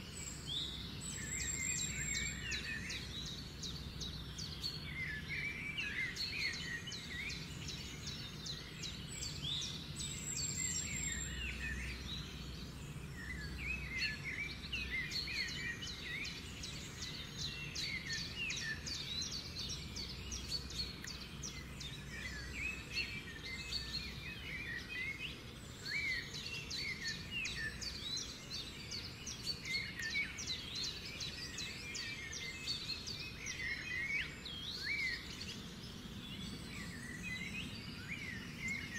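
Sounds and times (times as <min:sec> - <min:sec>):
birds chirping: 0:00.0 - 0:38.9
low steady background noise: 0:00.0 - 0:38.9.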